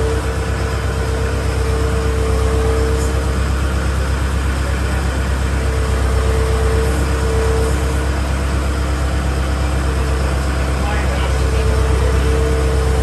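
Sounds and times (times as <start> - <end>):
forklift engine idling: 0.0 - 13.0.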